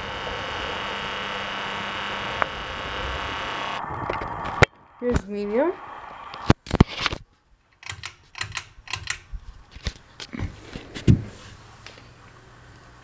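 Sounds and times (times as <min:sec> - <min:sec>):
ceiling fan humming: 0:00.0 - 0:06.8, 0:07.5 - 0:13.0.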